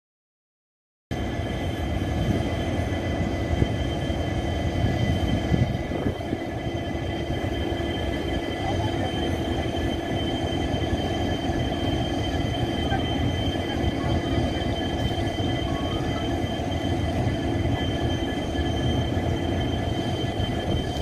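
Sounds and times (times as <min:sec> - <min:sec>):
train engine low rumble: 0:01.1 - 0:21.0
faint steady whines: 0:01.2 - 0:21.0.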